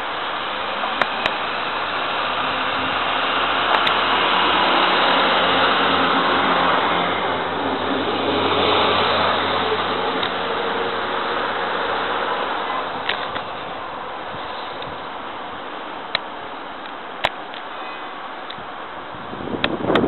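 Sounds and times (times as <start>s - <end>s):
diesel engine drone: 0.0s - 20.0s
train rolling noise: 0.0s - 20.0s.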